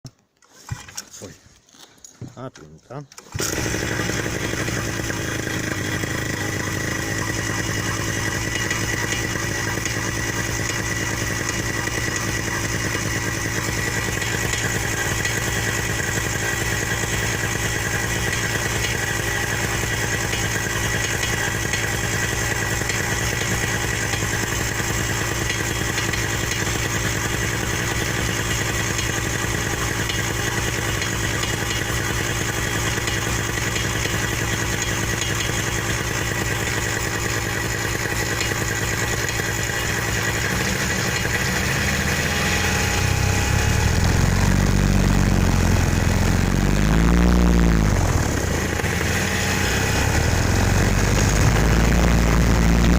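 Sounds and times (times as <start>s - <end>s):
engine idling with knocking: 3.2s - 52.9s.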